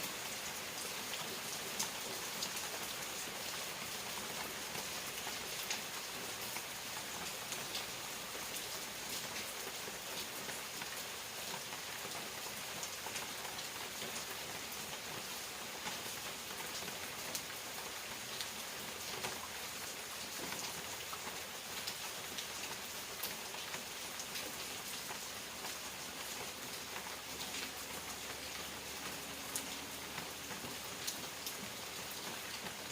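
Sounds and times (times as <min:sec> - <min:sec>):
rain drops tapping on surfaces: 0:00.0 - 0:32.9.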